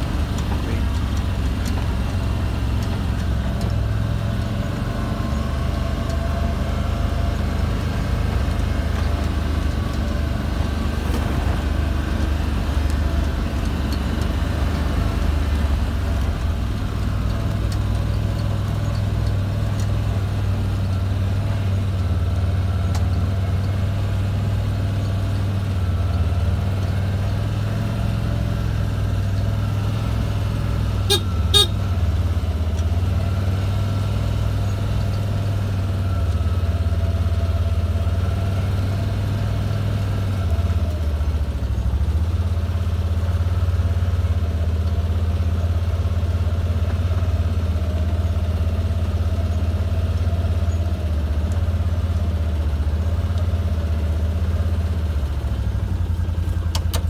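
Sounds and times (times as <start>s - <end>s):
farm vehicle engine running: 0.0s - 57.0s.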